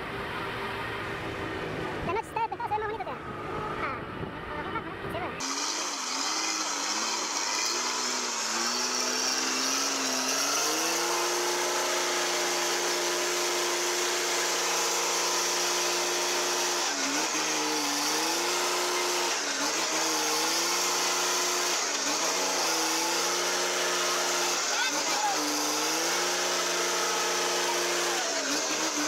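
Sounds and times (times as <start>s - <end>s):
truck diesel engine revving: 3.2s - 29.0s.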